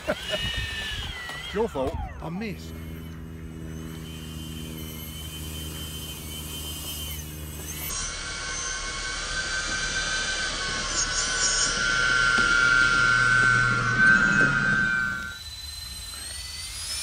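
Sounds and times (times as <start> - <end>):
model jet fans whining: 0.0 - 17.0.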